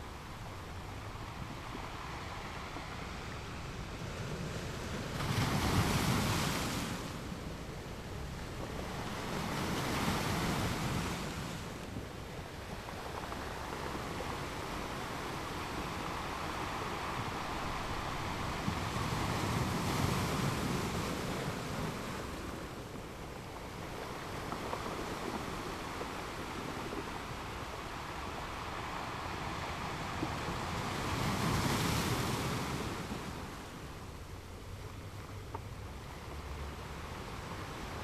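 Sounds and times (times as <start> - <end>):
ocean waves washing ashore: 0.0 - 38.0.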